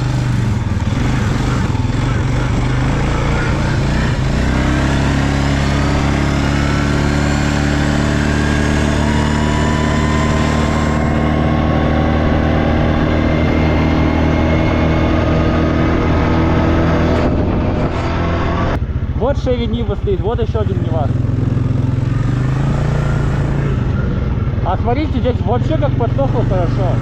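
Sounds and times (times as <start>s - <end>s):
atv engine running: 0.0s - 27.0s.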